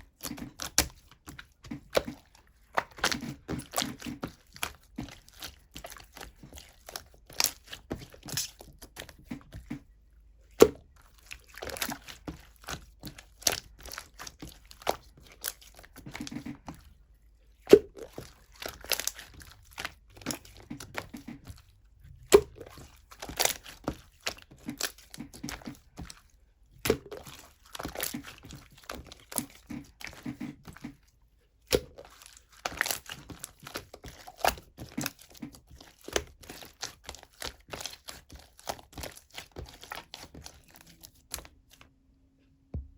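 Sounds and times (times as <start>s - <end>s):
slime squished by hand: 0.0s - 9.9s, 10.5s - 41.8s.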